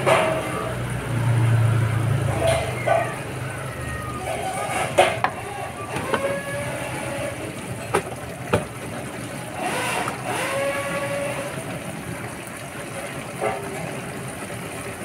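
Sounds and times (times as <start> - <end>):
noodles simmering in a frying pan: 0.0 - 15.0.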